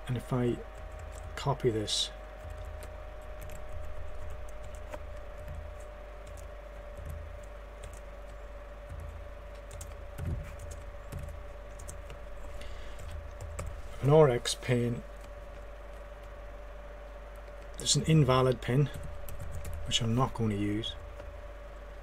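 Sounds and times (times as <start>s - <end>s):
faint steady whine: 0.0s - 22.0s
steady low hum: 0.0s - 22.0s.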